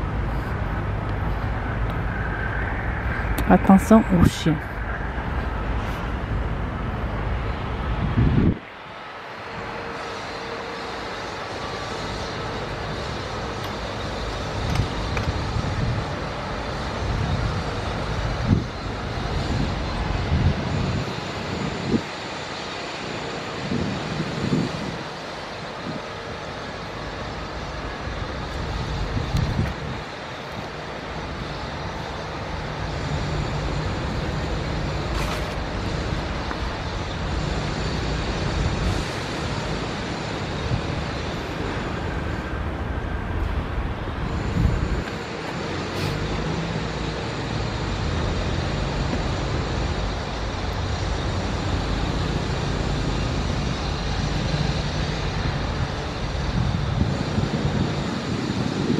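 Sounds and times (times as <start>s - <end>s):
city traffic rumble: 0.0s - 58.9s.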